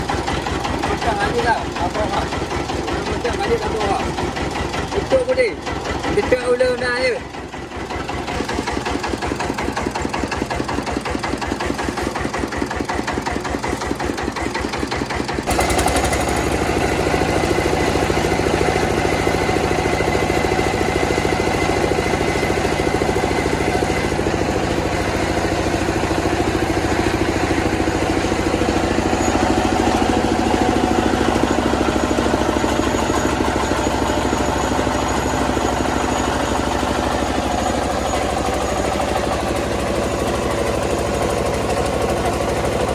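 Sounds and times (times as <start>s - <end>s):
rice milling machine chugging: 0.0s - 42.9s.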